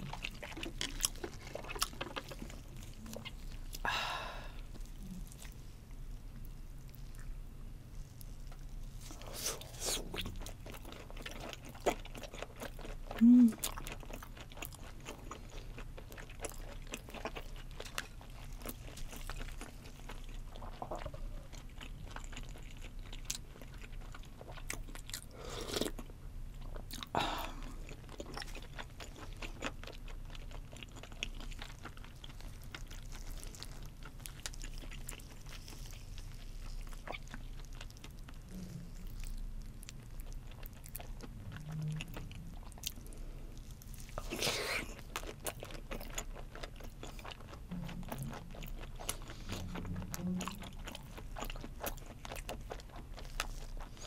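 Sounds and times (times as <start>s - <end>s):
chewing raw fish: 0.0s - 54.0s.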